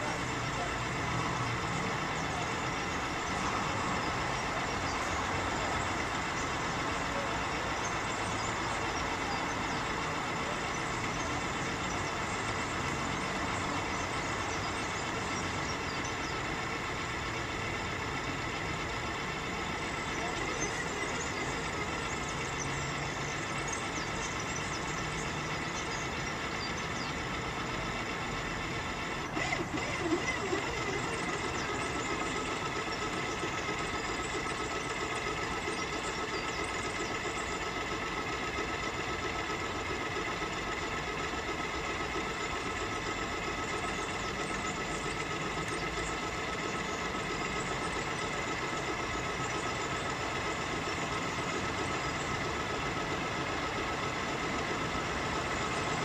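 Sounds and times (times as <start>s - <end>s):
boat motor whining: 0.0s - 56.0s.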